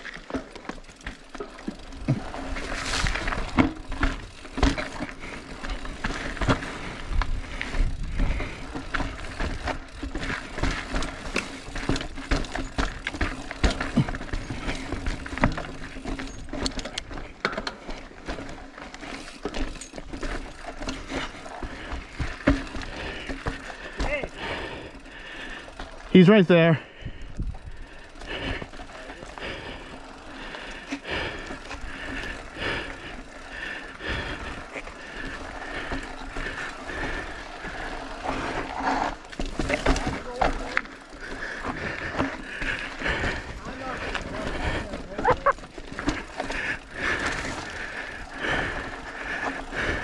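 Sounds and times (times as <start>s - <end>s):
bicycle rattling over rough ground: 0.0s - 50.0s.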